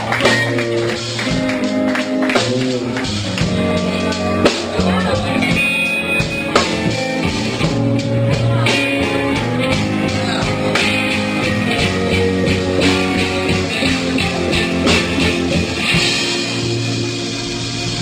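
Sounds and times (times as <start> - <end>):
bass: 0.0 - 18.0
drum kit: 0.0 - 18.0
guitar: 0.0 - 18.0.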